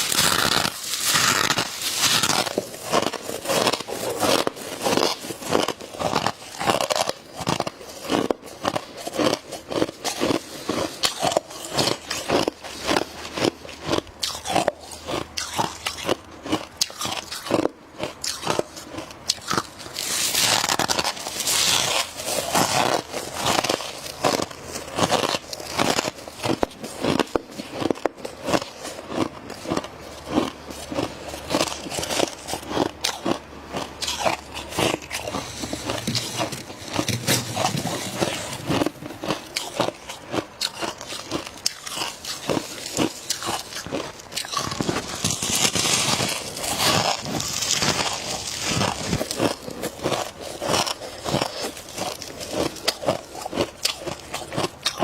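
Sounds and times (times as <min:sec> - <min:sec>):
biting and chewing frost: 0:00.0 - 0:55.0.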